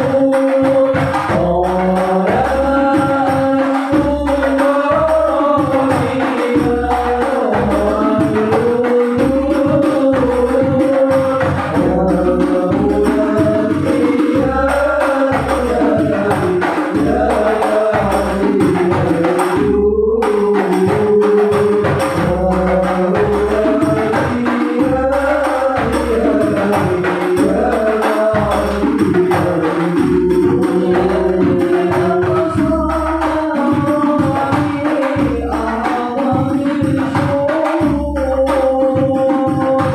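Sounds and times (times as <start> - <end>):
devotional singing: 0.0 - 39.9
hand-struck frame drums: 0.0 - 39.9.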